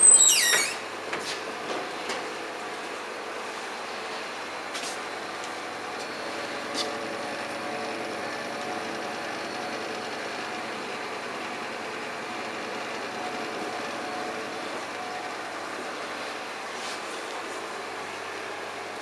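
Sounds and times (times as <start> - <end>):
mechanical hum and hiss: 0.0 - 19.0.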